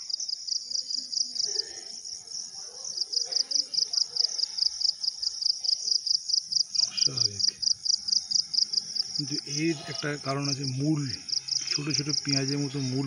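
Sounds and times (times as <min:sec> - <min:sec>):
insects chirping in a pulsing trill: 0:00.0 - 0:13.0.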